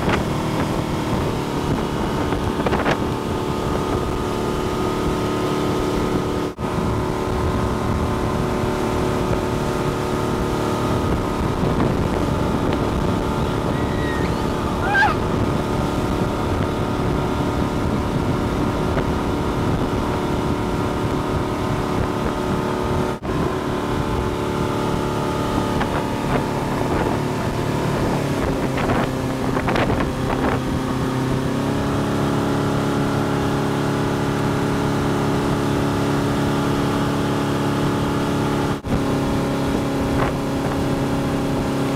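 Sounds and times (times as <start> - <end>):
motorboat engine running: 0.0 - 41.9
water rushing: 0.0 - 41.9
wind: 0.0 - 41.9.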